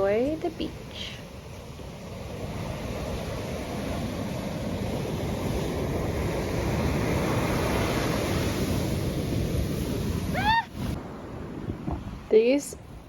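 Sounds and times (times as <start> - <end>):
surf breaking on beach: 0.0 - 12.2
wind buffeting microphone: 0.0 - 13.0.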